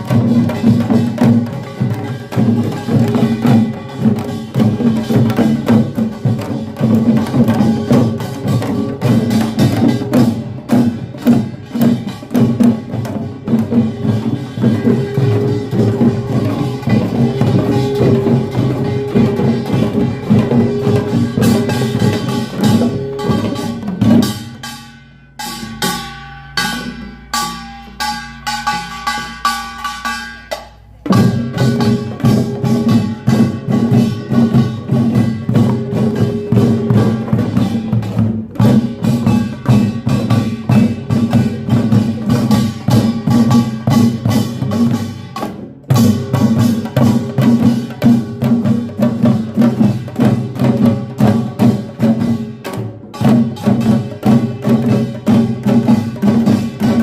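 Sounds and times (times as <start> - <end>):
fast drumming: 0.0 - 24.8, 25.5 - 57.0
clanging gongs: 0.0 - 57.0.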